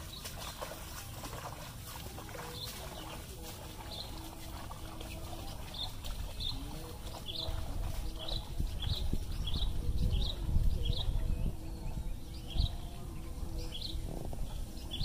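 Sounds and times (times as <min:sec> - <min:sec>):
wind rumbling on microphone: 0:00.0 - 0:15.0
bird chirping: 0:02.2 - 0:15.0.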